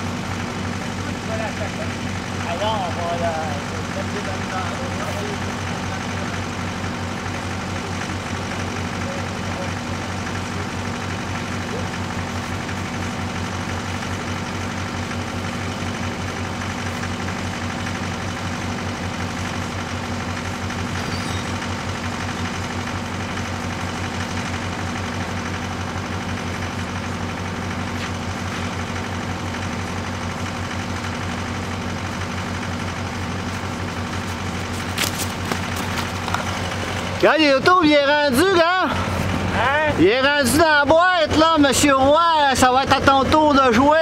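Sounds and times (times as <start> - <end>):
excavator engine idling: 0.0 - 44.0.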